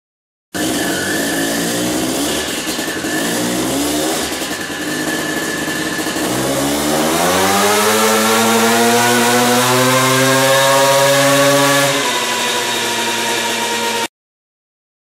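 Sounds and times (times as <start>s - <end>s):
two-stroke engine revving: 0.6s - 14.1s.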